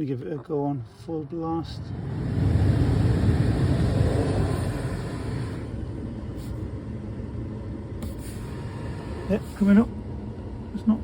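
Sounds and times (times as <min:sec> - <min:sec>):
blower fan rushing air: 0:00.7 - 0:11.0.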